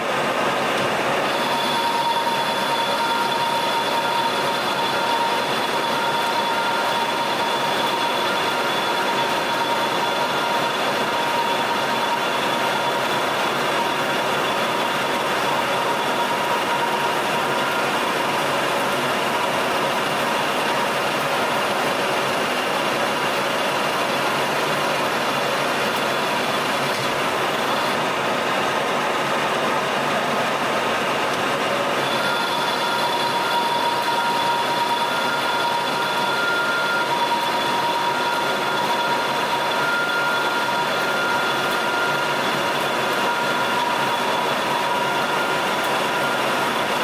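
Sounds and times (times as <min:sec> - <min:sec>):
metal lathe gear whine: 0:00.0 - 0:47.0.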